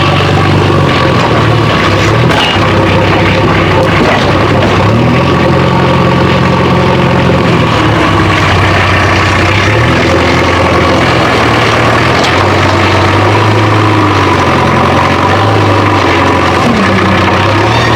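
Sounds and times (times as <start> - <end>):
heavy engine revving: 0.0 - 17.9.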